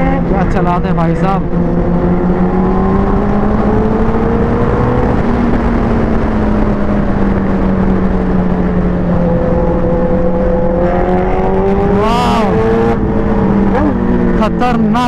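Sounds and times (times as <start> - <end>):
motorcycle engine cruising: 0.0 - 15.0
wind rush over microphone: 0.0 - 15.0.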